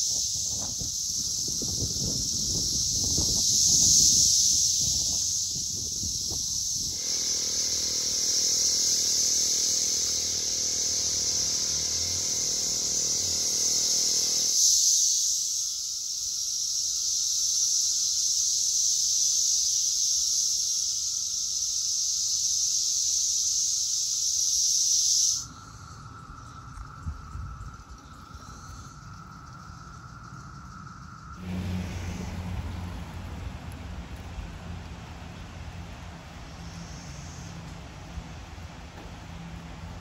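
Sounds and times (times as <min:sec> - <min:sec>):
cicadas buzzing: 0:00.0 - 0:40.0.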